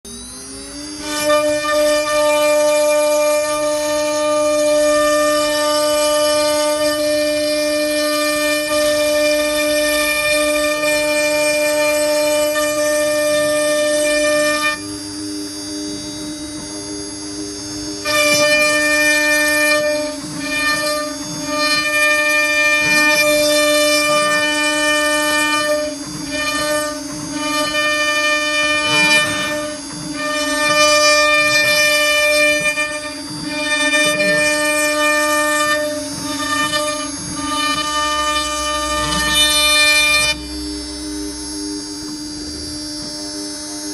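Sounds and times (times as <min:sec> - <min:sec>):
router spindle whining: 0:00.1 - 0:43.9.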